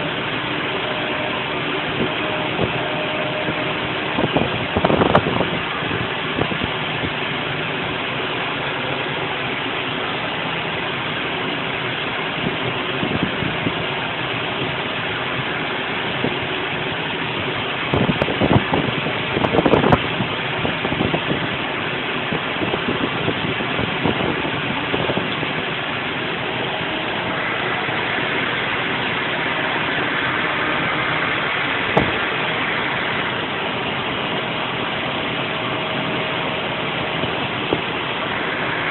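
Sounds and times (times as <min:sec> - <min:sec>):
engine clattering: 0:00.0 - 0:38.9
engine running steadily: 0:00.0 - 0:38.9.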